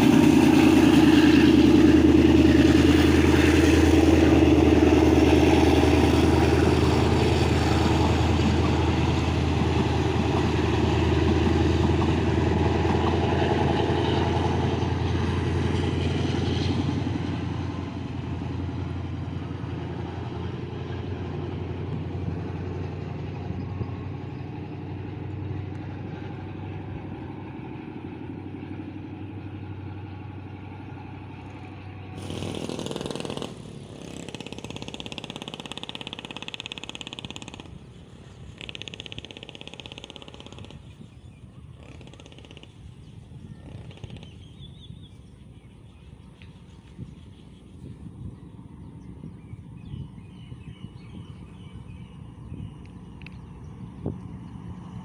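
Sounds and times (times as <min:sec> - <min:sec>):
locomotive engine drone: 0:00.0 - 0:55.0.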